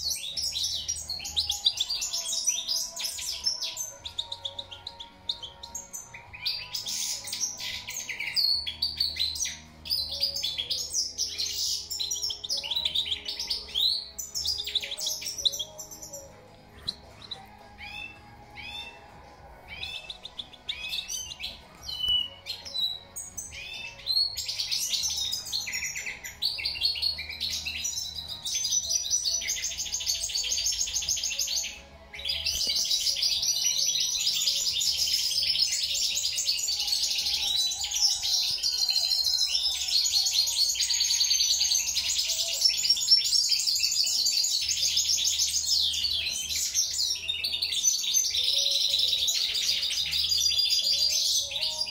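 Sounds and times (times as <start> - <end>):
goldfinch twittering song: 0.0 - 51.9.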